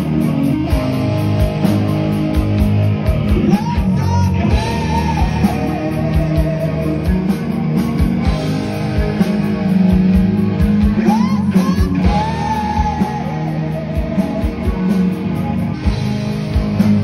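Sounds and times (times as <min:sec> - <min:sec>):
electric guitar lead line: 0:00.0 - 0:17.0
sustained low bass: 0:00.0 - 0:17.0.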